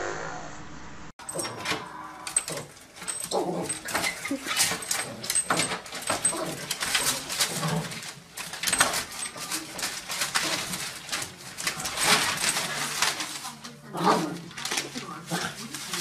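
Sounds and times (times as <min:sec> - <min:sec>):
pets pawing at a door: 0:01.4 - 0:16.0.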